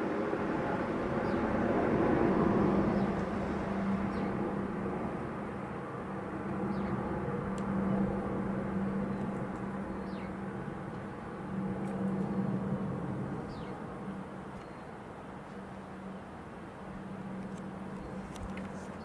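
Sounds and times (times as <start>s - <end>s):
turboprop engines droning: 0.0s - 18.9s.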